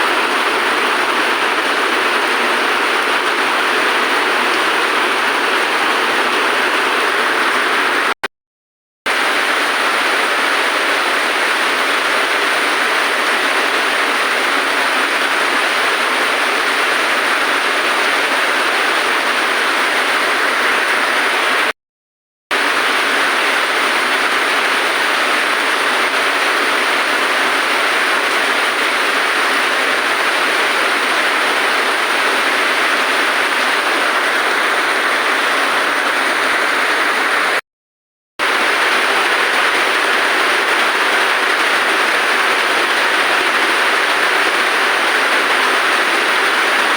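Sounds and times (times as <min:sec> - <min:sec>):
heavy rain hissing: 0:00.0 - 0:08.2, 0:09.1 - 0:21.7, 0:22.6 - 0:37.6, 0:38.4 - 0:46.9.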